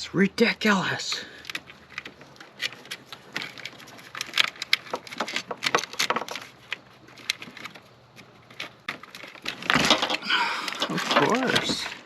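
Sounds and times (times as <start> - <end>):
clicks and rattles of hose handling: 1.1 - 12.0.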